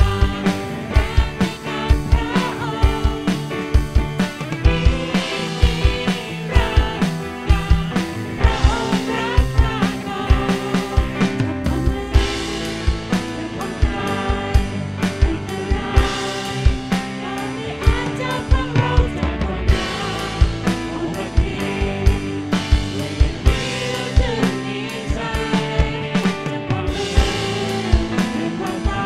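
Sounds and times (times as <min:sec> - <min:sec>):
woman singing into microphone: 0:00.0 - 0:03.6, 0:04.6 - 0:29.0
backing vocals: 0:00.0 - 0:29.0
drum kit beat: 0:00.0 - 0:29.0
electric guitar: 0:00.0 - 0:29.0
keyboard: 0:00.0 - 0:29.0.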